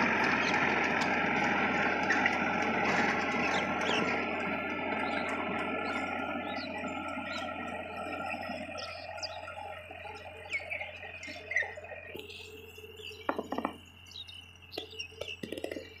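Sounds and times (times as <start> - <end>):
birds chirping: 0.0 - 16.0
steady hum of tones: 0.0 - 16.0.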